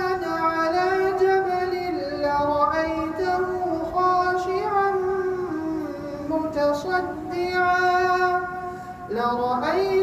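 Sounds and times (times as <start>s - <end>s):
person chanting melodically: 0.0s - 10.0s.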